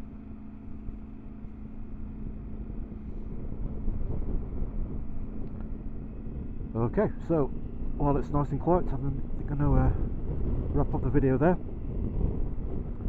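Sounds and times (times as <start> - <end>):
motorcycle engine running: 0.0 - 13.0
wind rushing over microphone: 0.6 - 13.0.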